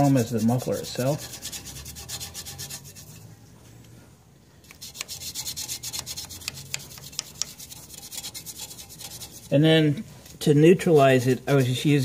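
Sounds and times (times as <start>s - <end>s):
brush scrubbing metal: 0.0s - 3.3s, 4.8s - 12.0s.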